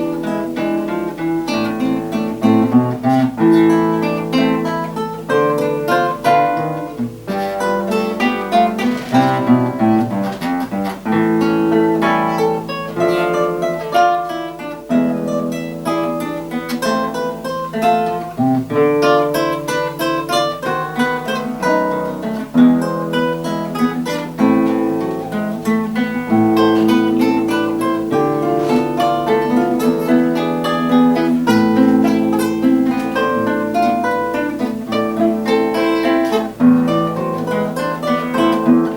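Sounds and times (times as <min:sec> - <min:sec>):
two acoustic guitars playing: 0:00.0 - 0:38.9.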